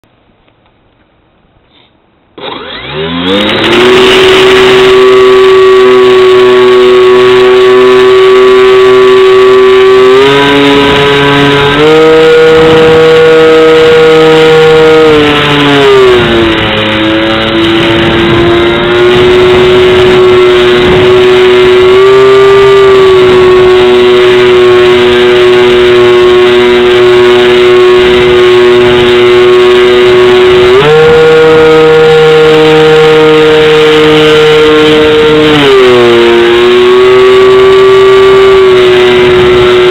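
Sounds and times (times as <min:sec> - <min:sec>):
electric motor and propeller whine: 0:02.4 - 0:39.9.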